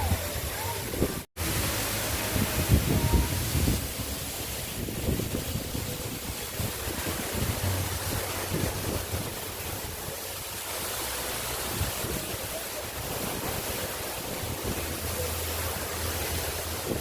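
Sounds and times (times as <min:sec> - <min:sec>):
wind buffeting microphone: 0:00.0 - 0:15.3
waterfall rushing: 0:00.0 - 0:17.0.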